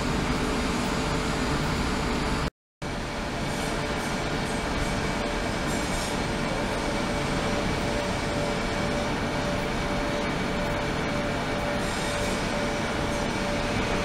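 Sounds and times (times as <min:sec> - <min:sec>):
ultrasonic cleaning tank running: 0:00.0 - 0:14.0.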